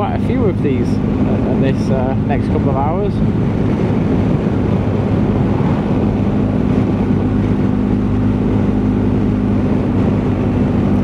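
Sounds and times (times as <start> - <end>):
motorcycle engine droning: 0.0 - 11.0
road and wind noise: 0.0 - 11.0.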